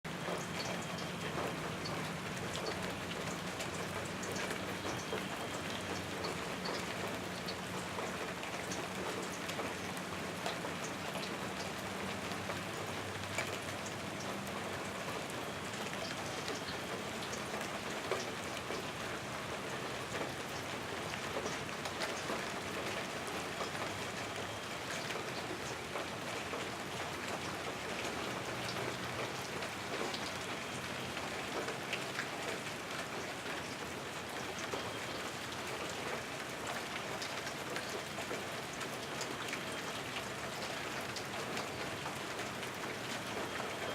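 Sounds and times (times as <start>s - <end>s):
rain falling on surfaces: 0.0s - 43.9s.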